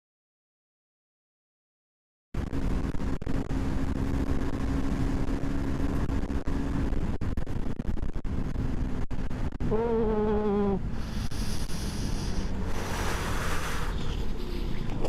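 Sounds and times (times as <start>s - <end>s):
motorcycle engine: 2.4s - 15.0s
wind and road noise: 2.4s - 15.0s.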